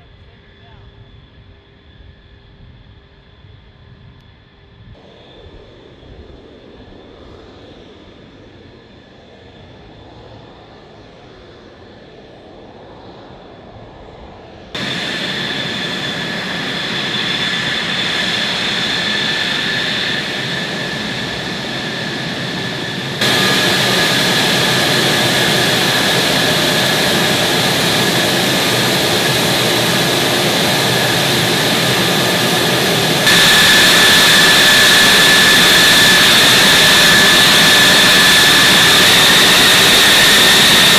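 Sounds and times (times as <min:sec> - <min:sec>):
jet engine whine and roar: 0:00.0 - 0:40.9.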